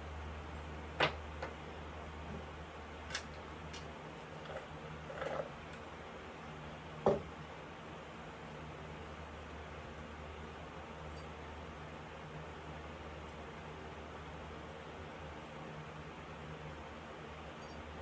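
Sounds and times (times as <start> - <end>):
electric fan humming: 0.0 - 18.0.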